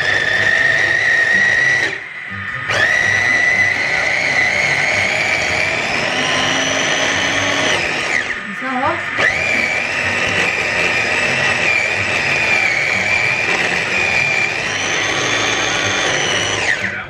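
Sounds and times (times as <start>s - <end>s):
electric chopper motor whining: 0.0s - 17.0s.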